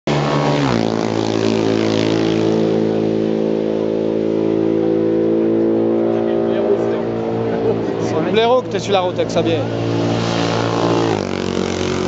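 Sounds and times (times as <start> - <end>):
racing motorcycle engine passing: 0.1 - 12.0.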